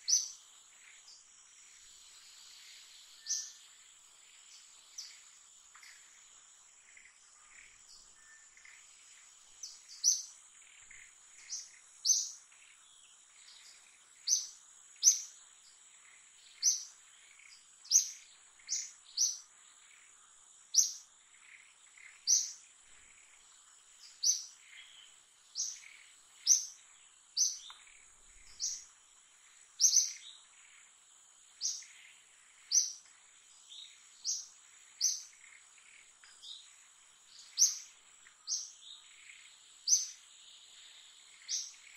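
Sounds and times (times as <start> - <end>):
bird chirping: 0.0 - 6.2, 6.8 - 41.9
insect drone: 0.0 - 41.9.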